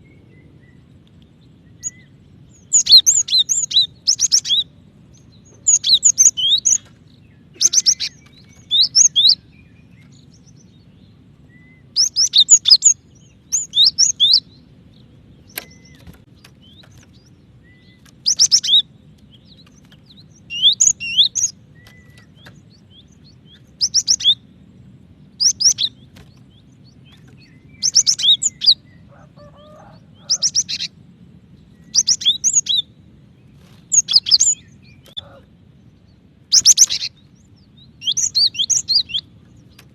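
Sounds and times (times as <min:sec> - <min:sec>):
bird high chirps: 0:01.6 - 0:24.5, 0:25.3 - 0:31.0, 0:31.6 - 0:33.0, 0:33.6 - 0:39.9.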